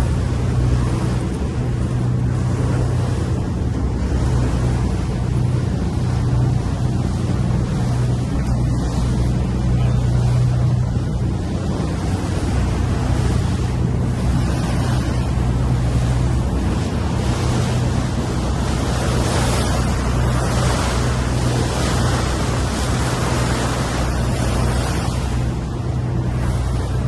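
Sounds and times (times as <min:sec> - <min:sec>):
boat engine humming: 0:00.0 - 0:27.0
water rushing along hull: 0:00.0 - 0:27.0
wind buffeting microphone: 0:00.0 - 0:27.0.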